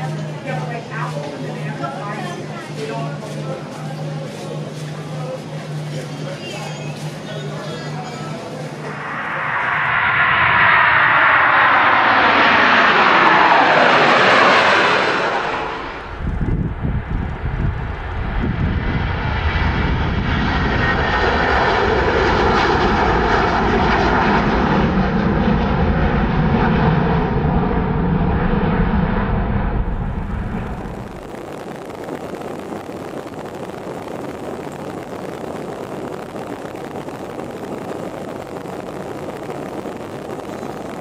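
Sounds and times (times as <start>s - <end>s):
airplane passing low overhead: 0.0s - 41.0s.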